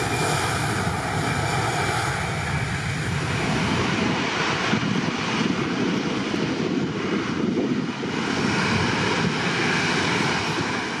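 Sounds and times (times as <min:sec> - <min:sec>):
jet engines taking off: 0:00.0 - 0:11.0.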